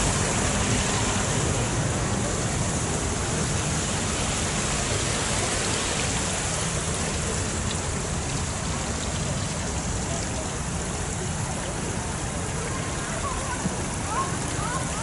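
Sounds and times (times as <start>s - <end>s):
water running down rocks: 0.0s - 15.0s.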